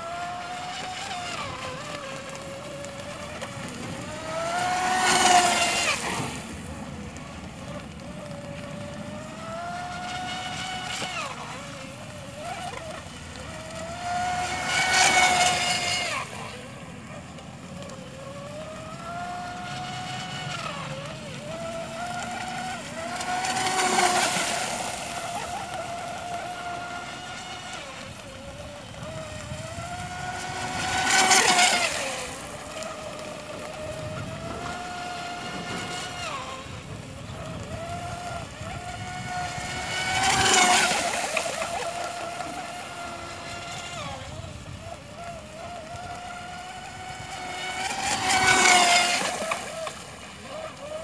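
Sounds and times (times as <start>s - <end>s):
boat passing with hissing rush: 0.0s - 51.0s
model speedboat motor whining: 0.0s - 51.0s.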